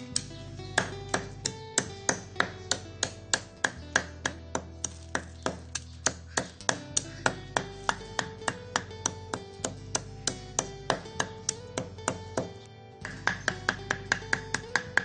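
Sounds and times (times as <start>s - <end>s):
guitar music: 0.0s - 15.0s
cleaver chopping on wooden board: 0.2s - 15.0s.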